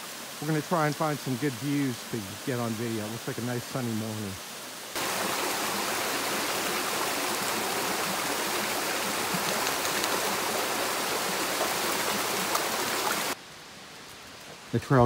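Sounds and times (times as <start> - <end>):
waterfall rushing into pool: 0.0 - 13.4.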